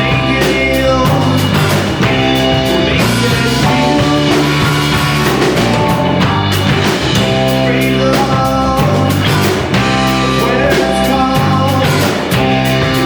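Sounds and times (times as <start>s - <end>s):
rock band playing live: 0.0s - 13.0s
sustained electric guitar notes: 0.0s - 13.0s.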